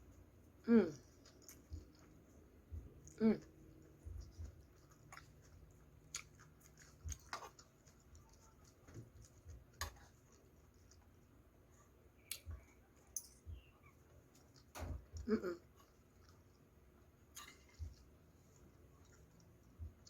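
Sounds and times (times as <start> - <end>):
person chewing: 1.0 - 11.3, 13.5 - 20.0.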